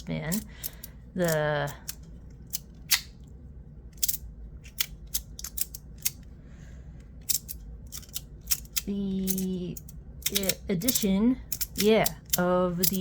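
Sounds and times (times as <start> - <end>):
magnetic metal pieces clicking: 0.0 - 3.3, 3.9 - 6.3, 7.2 - 13.0.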